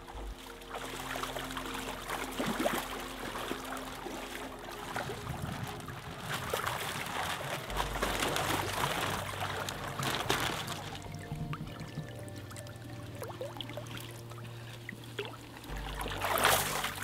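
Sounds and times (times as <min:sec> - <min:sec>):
water splashing in plastic tub: 0:00.0 - 0:17.0.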